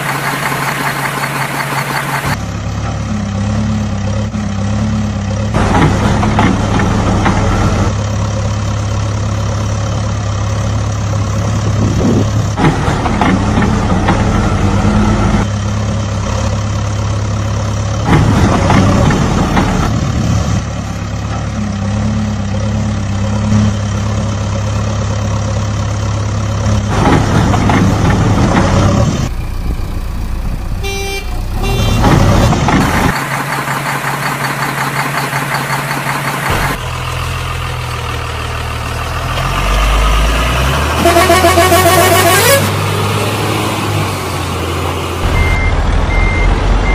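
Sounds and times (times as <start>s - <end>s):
heavy vehicle engine humming: 0.0s - 46.9s.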